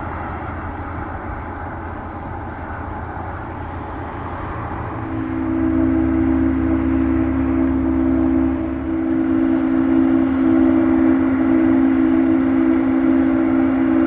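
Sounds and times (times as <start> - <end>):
deep rumble: 0.0 - 14.0
jet engines droning: 0.0 - 14.0.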